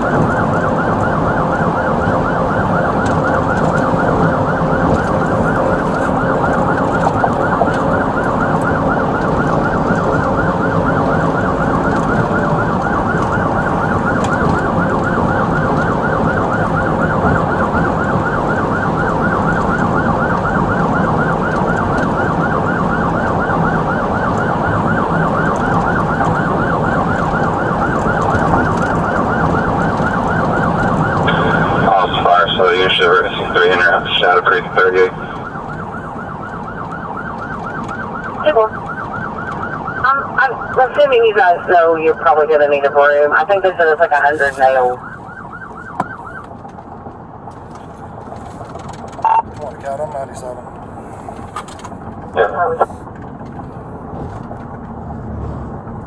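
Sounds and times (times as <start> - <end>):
siren yelping: 0.0 - 47.0, 48.0 - 49.6, 52.3 - 52.9.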